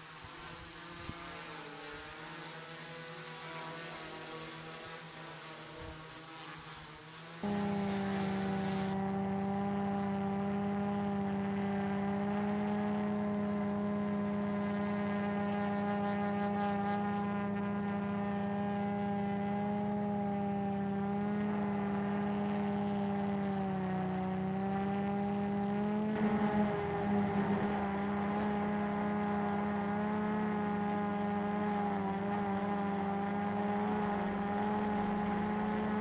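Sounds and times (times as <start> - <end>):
drone propellers humming: 0.0 - 36.0.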